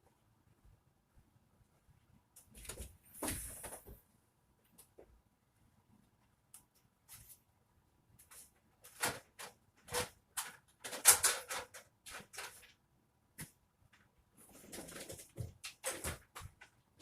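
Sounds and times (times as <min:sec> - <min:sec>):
clatters and scrapes in closet: 0:01.6 - 0:05.2, 0:06.0 - 0:17.0.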